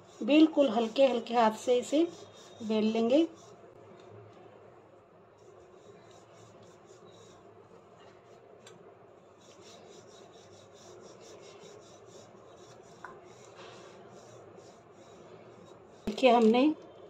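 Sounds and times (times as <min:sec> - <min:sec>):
rolling pin rubbing on dough: 0:00.0 - 0:03.8, 0:05.3 - 0:08.6, 0:09.2 - 0:16.4.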